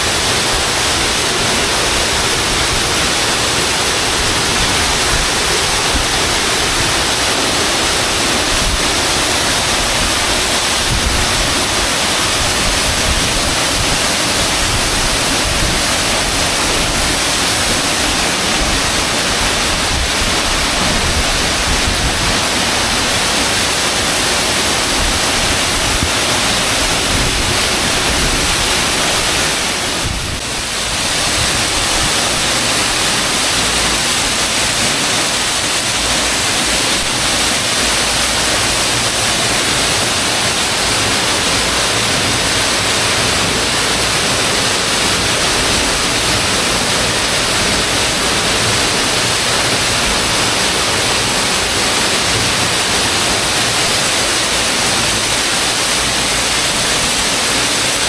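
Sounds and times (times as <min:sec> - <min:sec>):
waterfall rushing into rock pool: 0:00.0 - 0:58.0.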